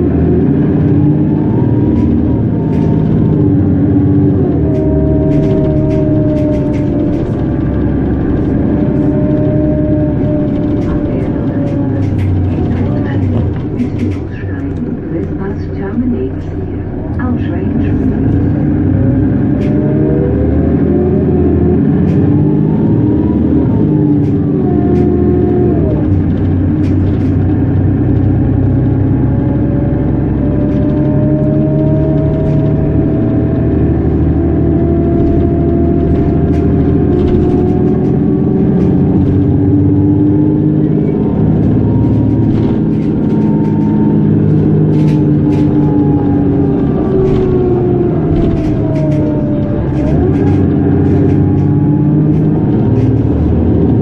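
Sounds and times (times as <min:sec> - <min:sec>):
bus accelerating: 0:00.0 - 0:54.0
gearbox whining: 0:00.0 - 0:54.0.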